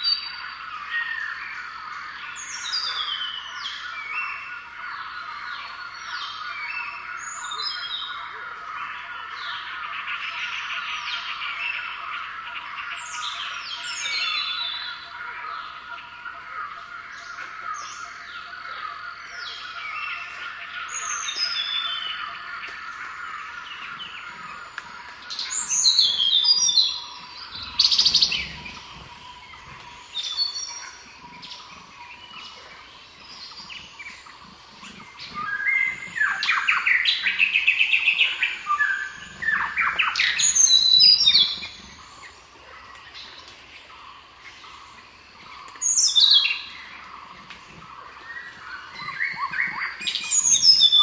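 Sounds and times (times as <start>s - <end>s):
songbirds chirping and singing: 0.0s - 51.0s.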